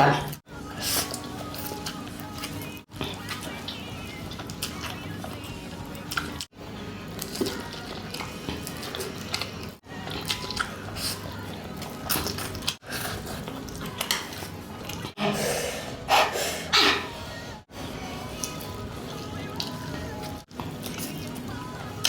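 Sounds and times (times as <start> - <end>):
chewing and slurping noodles: 0.6 - 22.0.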